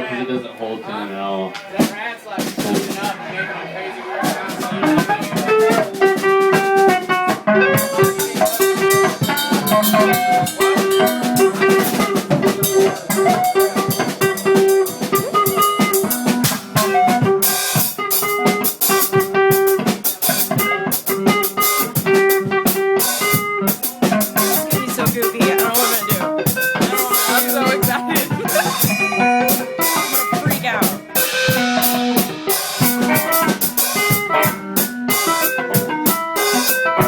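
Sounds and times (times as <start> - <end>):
drum kit: 4.5 - 37.0.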